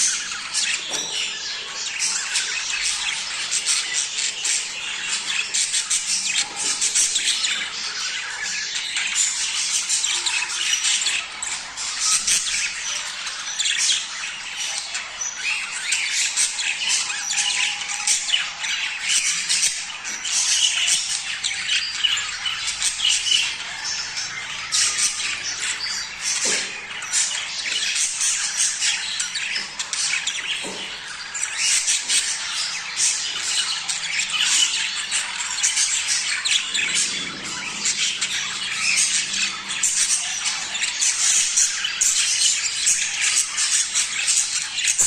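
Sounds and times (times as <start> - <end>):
budgerigar flock chattering: 0.0 - 45.0.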